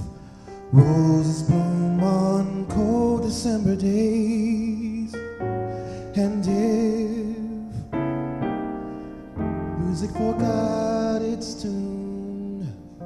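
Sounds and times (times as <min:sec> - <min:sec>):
keyboard accompaniment: 0:00.0 - 0:13.0
person singing a love ballad: 0:00.0 - 0:13.0.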